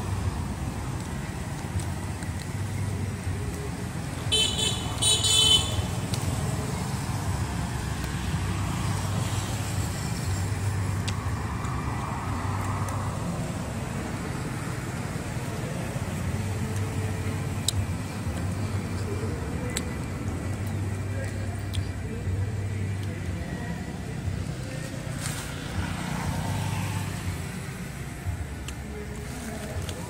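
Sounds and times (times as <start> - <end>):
low rumble of road traffic: 0.0 - 30.0.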